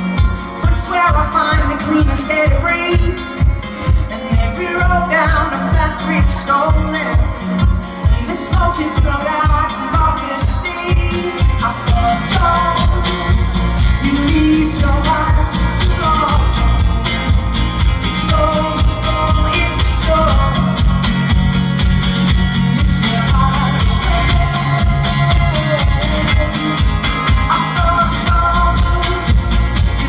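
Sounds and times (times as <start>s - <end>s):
man singing: 0.0s - 30.0s
strummed acoustic guitar: 0.0s - 30.0s
bass drum beat: 0.1s - 30.0s.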